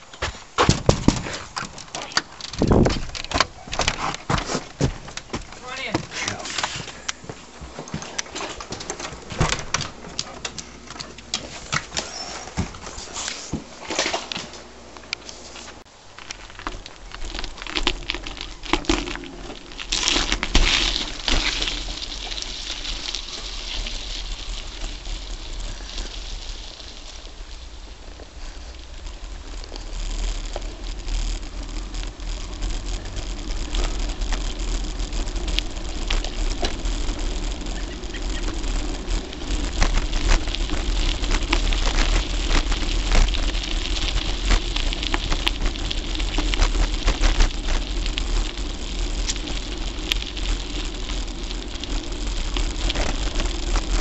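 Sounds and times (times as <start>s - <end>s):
bike rolling over gravel: 0.0s - 54.0s.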